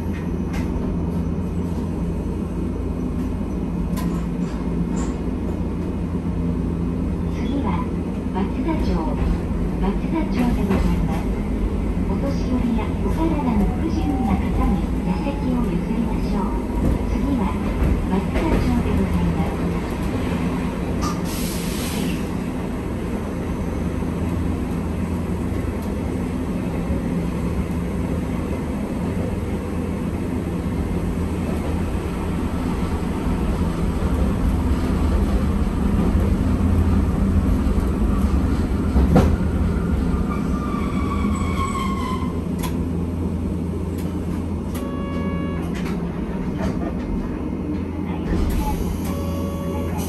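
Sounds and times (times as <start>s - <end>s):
streetcar motors and wheels rumbling: 0.0s - 50.0s.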